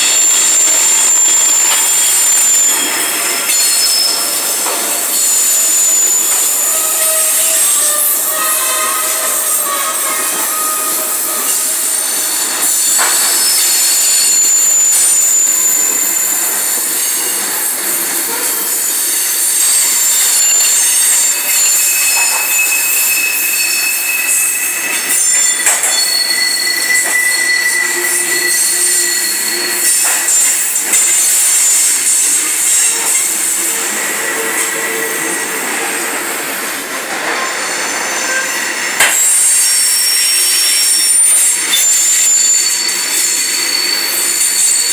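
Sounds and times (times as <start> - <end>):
rumble and clatter of rail cars: 0.0 - 44.9
train wheels screeching: 0.0 - 44.9.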